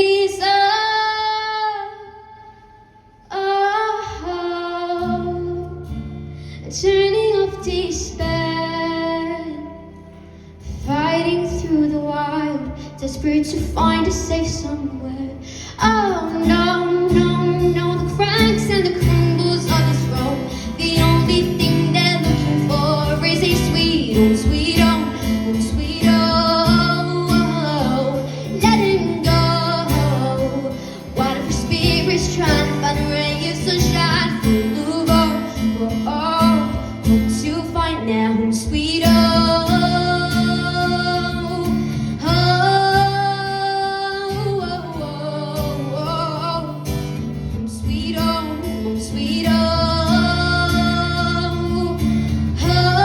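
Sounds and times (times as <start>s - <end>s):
woman singing: 0.0s - 2.6s, 3.2s - 53.0s
acoustic guitar: 0.0s - 53.0s.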